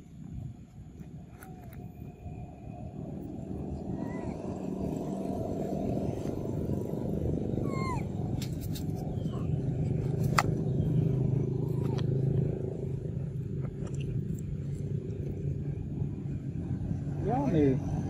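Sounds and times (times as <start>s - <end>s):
low motor-like rumble: 0.0s - 18.0s.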